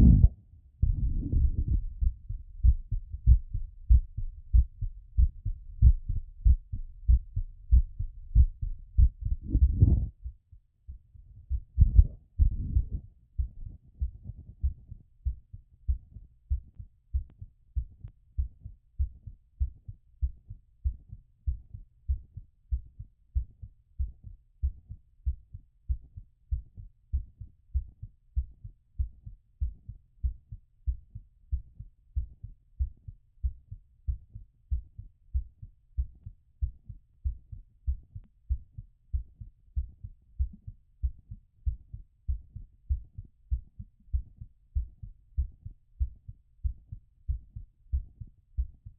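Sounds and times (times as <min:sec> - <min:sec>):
heartbeat thuds: 0:00.0 - 0:48.9.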